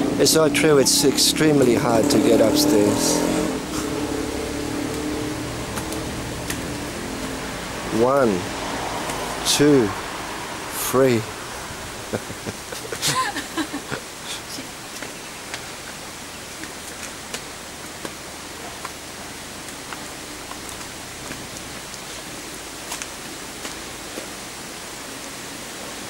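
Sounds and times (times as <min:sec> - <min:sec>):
outdoor hiss: 0:00.0 - 0:26.0.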